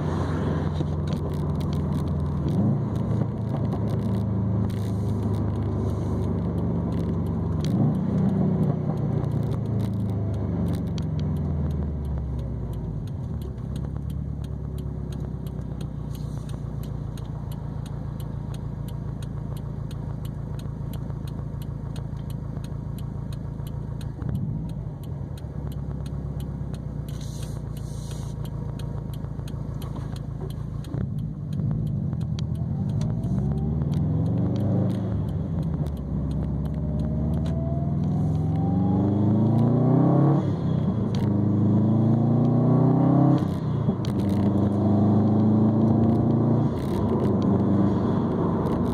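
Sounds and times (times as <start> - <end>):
car engine droning: 0.0 - 48.9.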